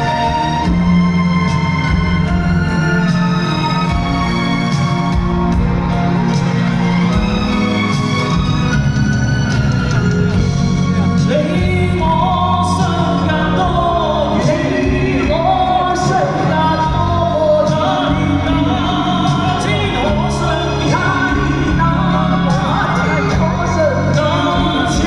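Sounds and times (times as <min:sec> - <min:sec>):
gliding melodic lead: 0:00.0 - 0:25.0
pop song: 0:00.0 - 0:25.0
steady bass: 0:00.0 - 0:25.0.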